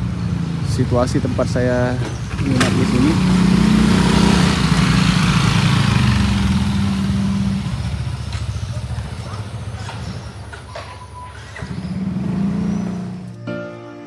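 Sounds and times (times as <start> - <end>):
motor scooters riding past: 0.0 - 13.4.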